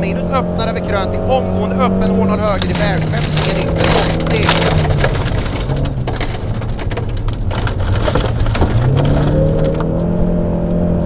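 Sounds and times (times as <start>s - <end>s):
gravel rattling on underbody: 0.0s - 10.2s
car engine running hard: 0.0s - 11.0s.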